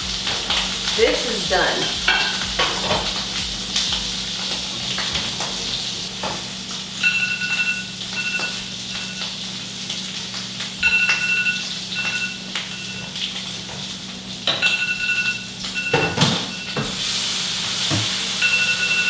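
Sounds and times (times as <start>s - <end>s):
kitchen appliance beeping: 0.0s - 9.8s, 10.7s - 13.5s, 14.5s - 19.0s
food sizzling in a pan: 0.0s - 19.0s.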